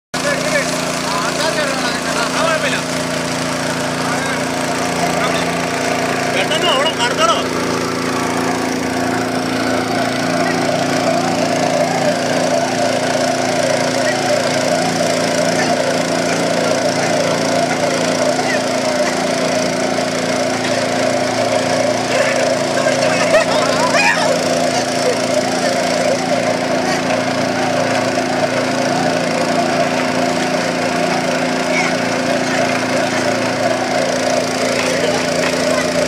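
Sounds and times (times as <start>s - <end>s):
boat motor running: 0.1s - 36.0s.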